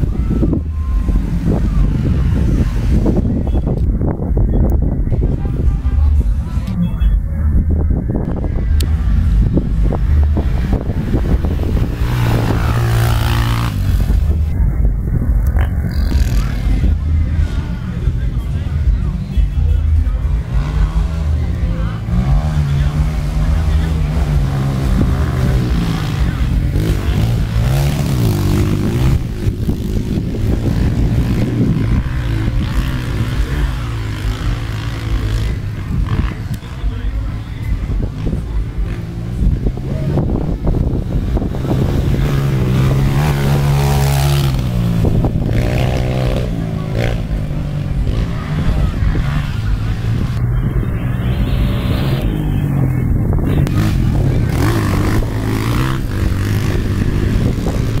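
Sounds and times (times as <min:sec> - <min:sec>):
low rumble: 0:00.0 - 0:58.0
motorcycle engines revving: 0:00.0 - 0:58.0.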